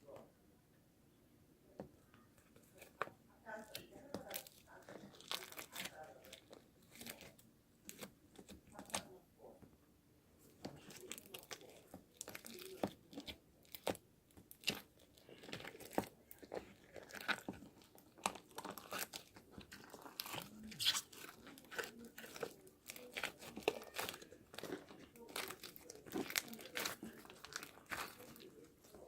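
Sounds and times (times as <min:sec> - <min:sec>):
plastic packaging crinkling: 0:03.6 - 0:09.1, 0:10.7 - 0:13.9, 0:14.5 - 0:29.0.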